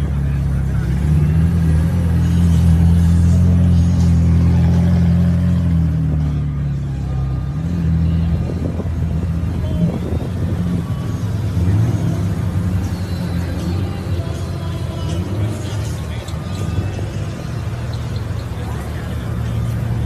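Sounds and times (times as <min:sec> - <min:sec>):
car engines running: 0:00.0 - 0:20.0.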